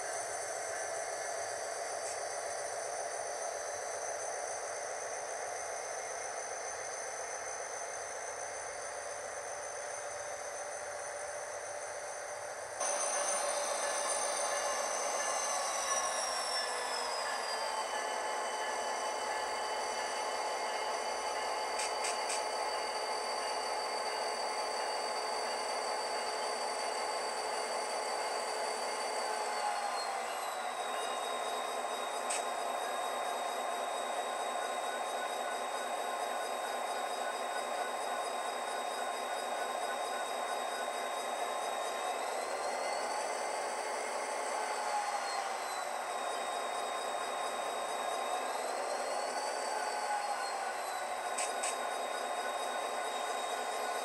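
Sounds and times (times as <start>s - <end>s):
faint motor whine: 0.0s - 54.0s
model train whirring and rolling: 0.0s - 54.0s.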